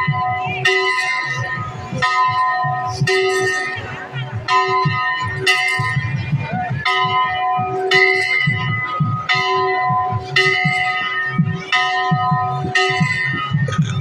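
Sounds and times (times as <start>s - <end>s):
large temple bell ringing: 0.0s - 14.0s.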